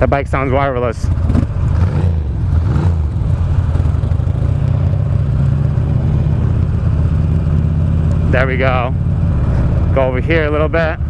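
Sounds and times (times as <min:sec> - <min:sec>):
motorcycle engine droning: 0:00.0 - 0:11.0
wind and road noise: 0:00.0 - 0:11.0.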